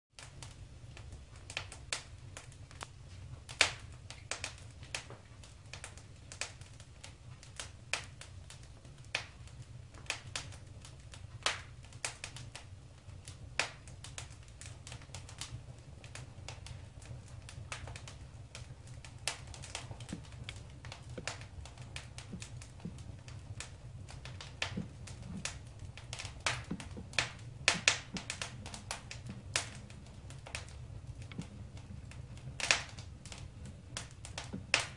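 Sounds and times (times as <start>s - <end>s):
wood fire crackling: 0.1s - 34.9s
sharp pops and snaps: 0.2s - 34.9s.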